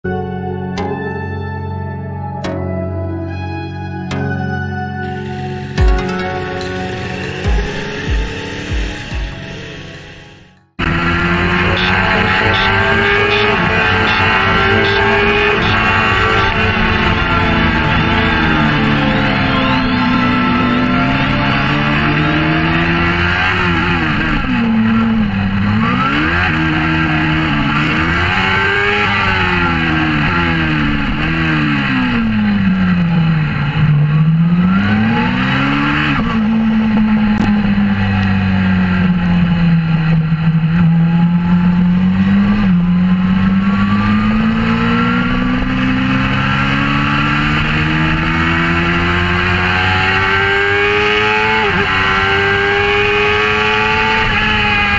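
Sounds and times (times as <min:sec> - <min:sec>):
motorcycle engine revving: 0:05.1 - 0:54.9.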